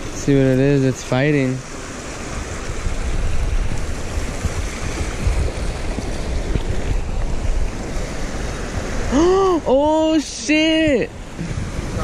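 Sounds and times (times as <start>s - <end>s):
small waves washing over rocks: 0.0s - 12.0s
wind buffeting microphone: 0.0s - 12.0s.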